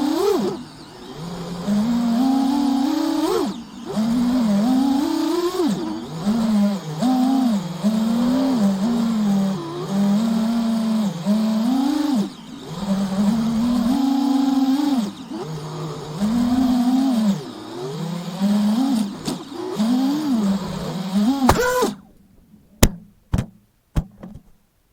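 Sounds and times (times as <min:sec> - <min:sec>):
drone motors and propellers whining: 0:00.0 - 0:22.8.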